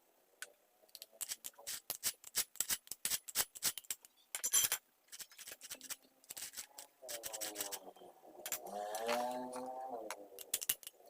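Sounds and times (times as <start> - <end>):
clicks and scrapes of small parts: 0.4 - 11.0.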